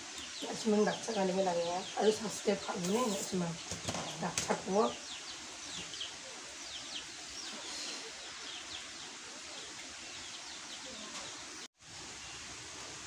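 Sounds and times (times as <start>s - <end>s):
small birds chirping: 0.0s - 12.5s
steady background hiss: 0.0s - 13.0s.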